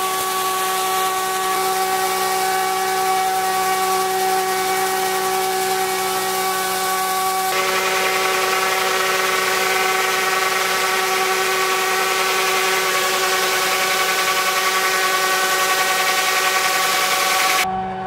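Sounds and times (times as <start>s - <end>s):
machine hissing with steady tones: 0.0s - 17.7s.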